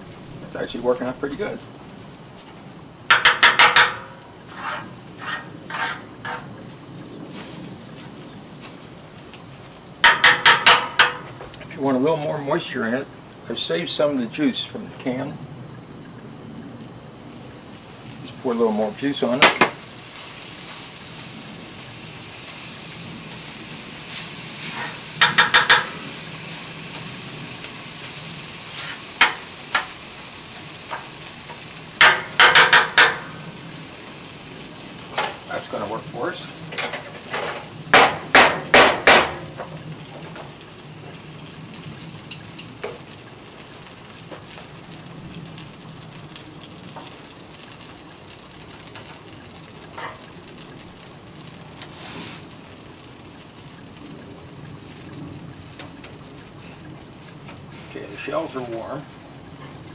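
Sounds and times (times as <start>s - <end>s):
beans sizzling on griddle: 0.0s - 59.9s.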